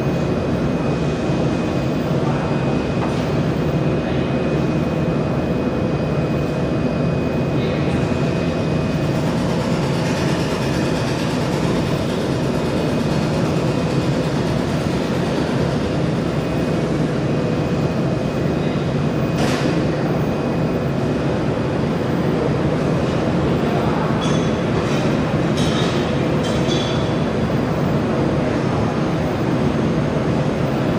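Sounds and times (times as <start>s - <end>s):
low machine running noise: 0.0s - 30.9s.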